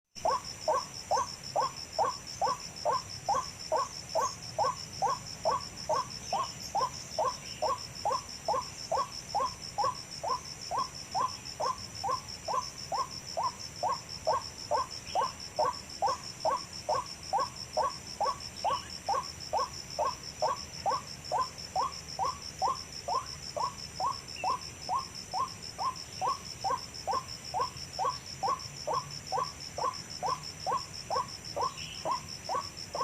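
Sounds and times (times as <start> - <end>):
bird hooting call: 0.2 - 33.0.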